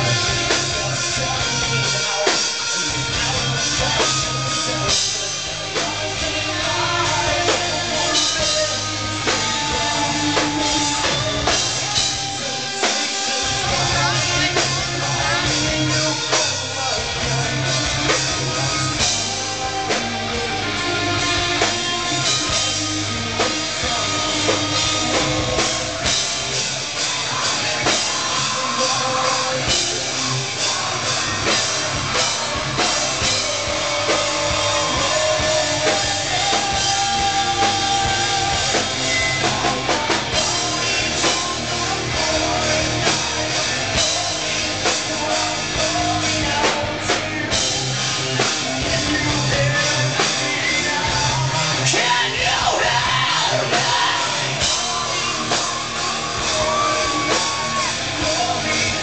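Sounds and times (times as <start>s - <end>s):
bass guitar: 0.0s - 59.0s
electric guitar: 0.0s - 59.0s
person singing: 0.0s - 59.0s.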